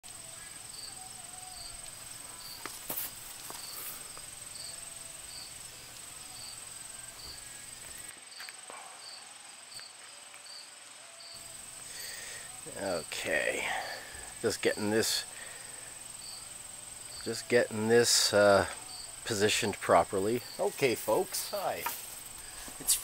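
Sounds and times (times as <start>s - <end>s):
insect chirping: 0.0s - 23.0s
insects buzzing: 0.0s - 23.0s.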